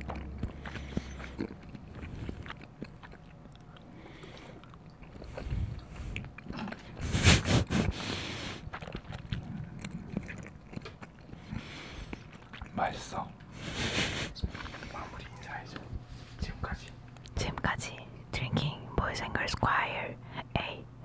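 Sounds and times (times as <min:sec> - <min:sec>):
close chewing with mouth clicks: 0:00.0 - 0:17.4.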